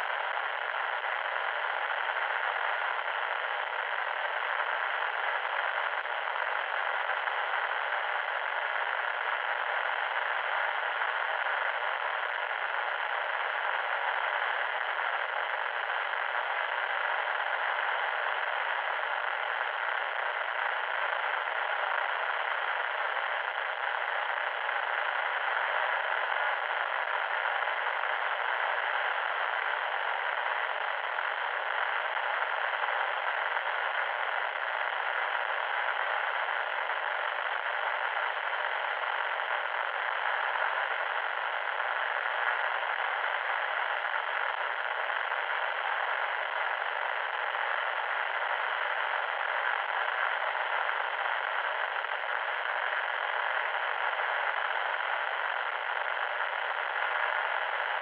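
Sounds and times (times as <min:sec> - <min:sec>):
electronic static hiss: 0:00.0 - 0:58.0.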